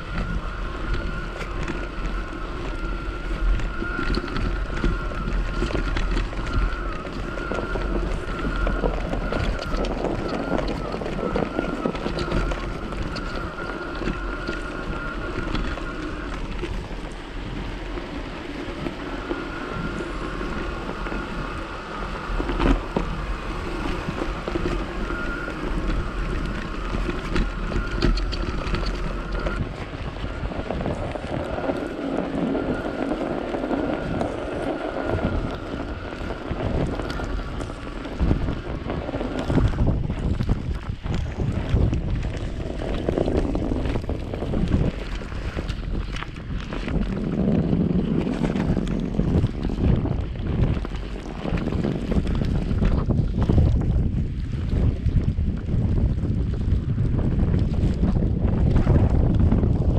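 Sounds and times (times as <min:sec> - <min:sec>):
electric motor whine: 0:00.0 - 0:55.7
wind buffeting microphone: 0:00.0 - 0:59.9.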